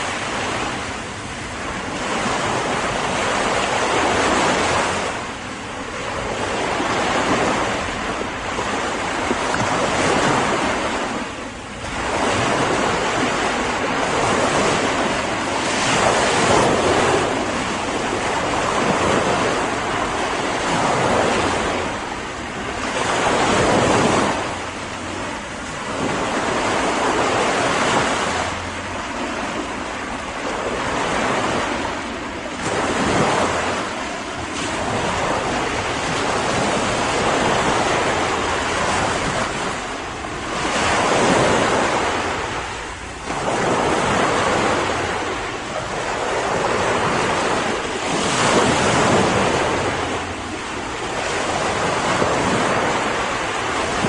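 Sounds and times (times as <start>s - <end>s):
surf hiss: 0.0s - 54.0s
waves breaking: 0.0s - 54.0s.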